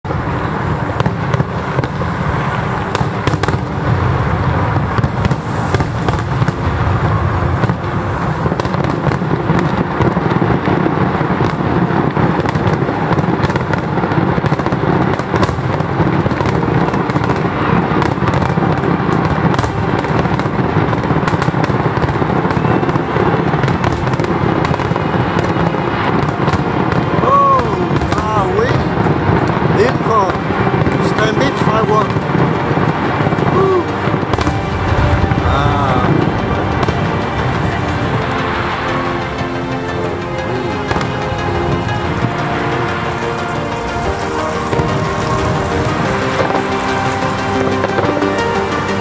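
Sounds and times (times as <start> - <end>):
fireworks popping: 0.0 - 49.0
low rumble of fireworks booms: 0.0 - 49.0.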